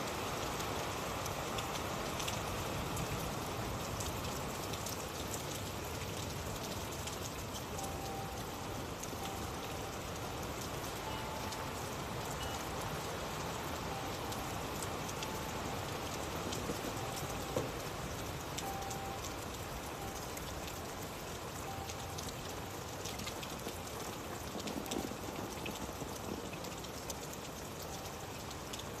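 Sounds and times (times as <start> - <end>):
raindrop ticks: 0.0 - 29.0
steady rain hiss: 0.0 - 29.0.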